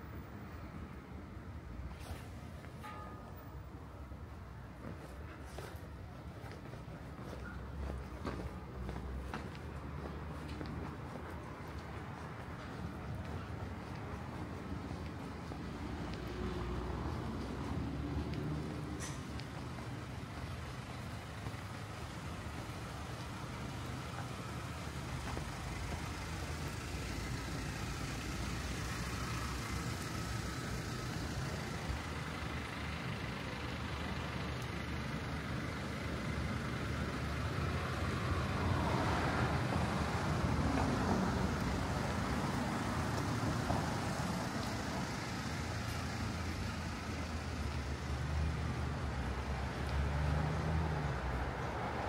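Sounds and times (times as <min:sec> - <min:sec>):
cars passing: 0:00.0 - 0:52.0
engine rumbling: 0:00.0 - 0:52.0.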